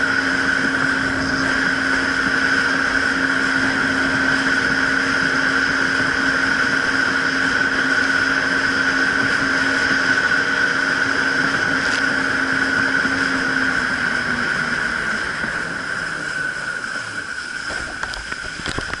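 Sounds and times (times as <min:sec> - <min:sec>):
jet ski engine running: 0:00.0 - 0:19.0
water rushing past hull: 0:00.0 - 0:19.0.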